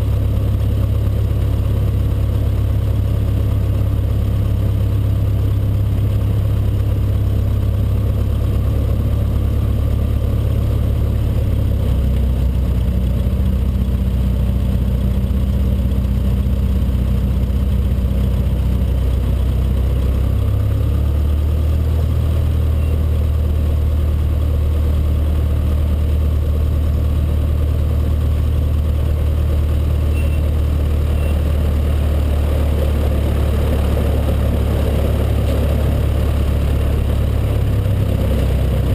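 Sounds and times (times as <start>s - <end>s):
small plane engine running: 0.0s - 38.9s.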